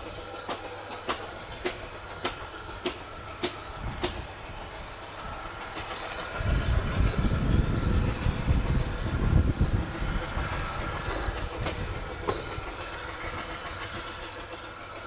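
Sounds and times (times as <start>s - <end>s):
steam train rumbling past: 0.0s - 15.0s.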